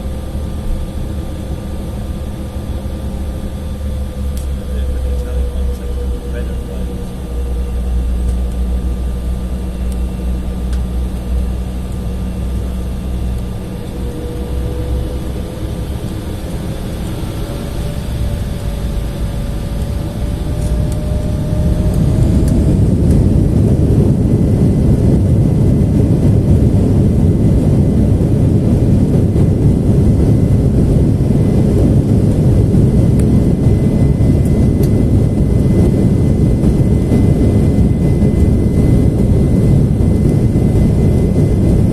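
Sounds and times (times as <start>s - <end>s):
aircraft takeoff roll rumble: 0.0s - 41.9s
jet engines spooling up: 0.0s - 41.9s.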